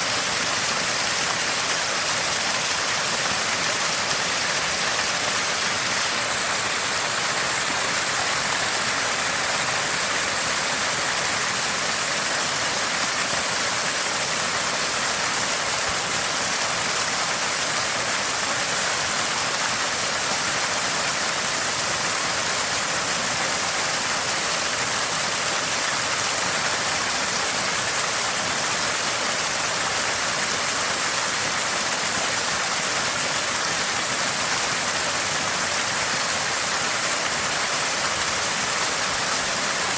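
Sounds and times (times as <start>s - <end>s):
spring water gushing and gurgling: 0.0s - 39.9s.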